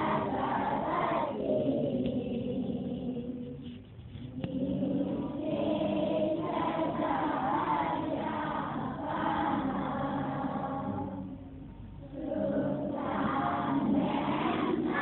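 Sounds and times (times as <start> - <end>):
children singing in chorus: 0.0 - 3.6, 4.3 - 11.4, 12.0 - 15.0.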